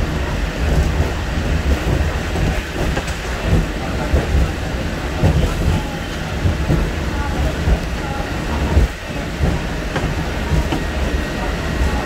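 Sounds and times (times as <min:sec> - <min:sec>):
funicular car rumbling on track: 0:00.0 - 0:12.0.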